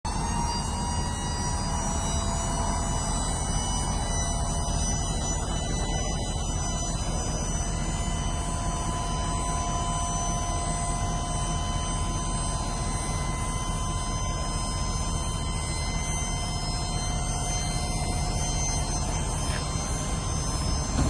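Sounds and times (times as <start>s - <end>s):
high-pitched whine: 0.0s - 21.0s
truck engine idling: 0.0s - 21.0s.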